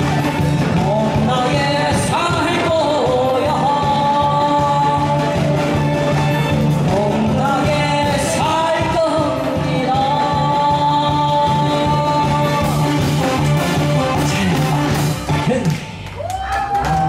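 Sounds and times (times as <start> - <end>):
person singing: 0.0 - 15.9
instrumental backing music: 0.0 - 16.3.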